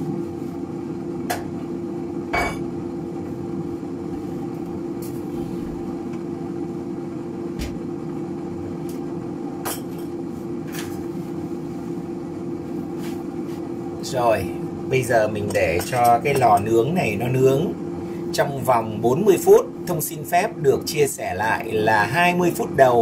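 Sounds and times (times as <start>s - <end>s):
air fryer fan humming: 0.0s - 23.0s.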